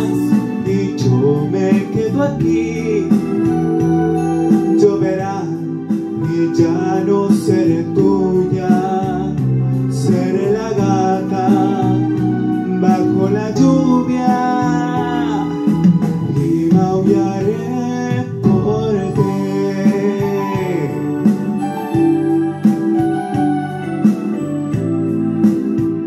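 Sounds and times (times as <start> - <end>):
man singing into a microphone: 0.0 - 21.9
instrumental backing track: 0.0 - 26.0.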